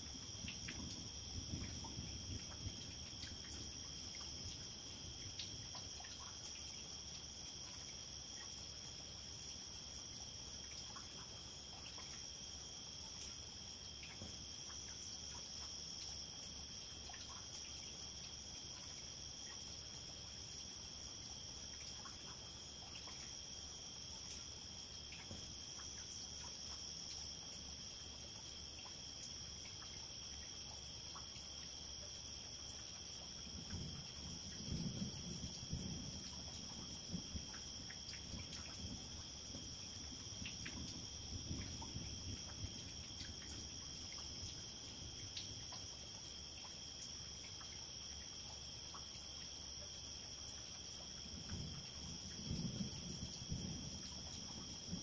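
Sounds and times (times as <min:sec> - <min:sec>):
crickets trilling: 0:00.0 - 0:55.0
rain dripping on pavement: 0:00.0 - 0:55.0.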